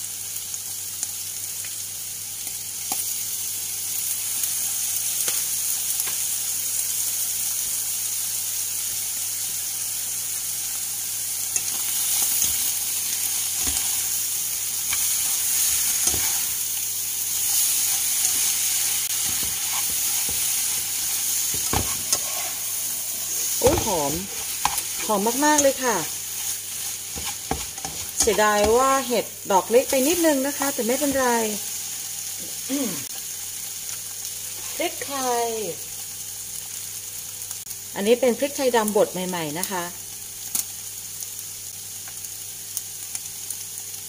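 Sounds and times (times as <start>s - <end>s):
food sizzling in a pan: 0.0s - 44.0s.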